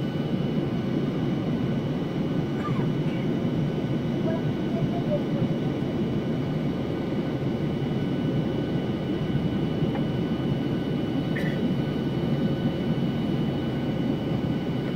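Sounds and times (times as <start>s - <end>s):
jet engine roar in cabin: 0.0s - 14.9s.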